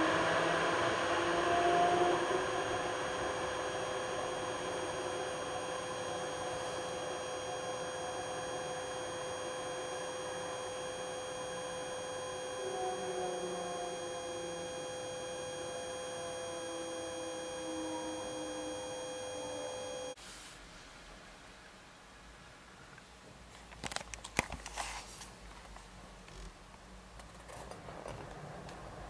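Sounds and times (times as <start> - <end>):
steady hum with hiss: 0.0 - 29.0.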